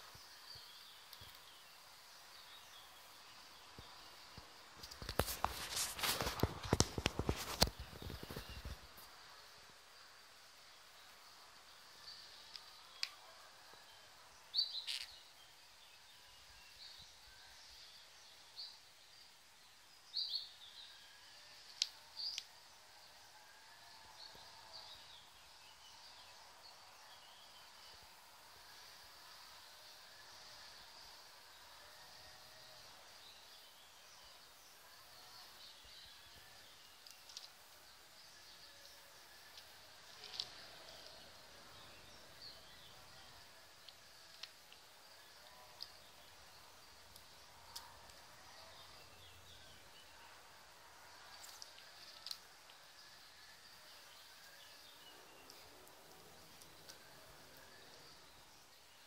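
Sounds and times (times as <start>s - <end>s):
outdoor background noise: 0.0s - 59.0s
songbirds chirping: 0.0s - 59.0s.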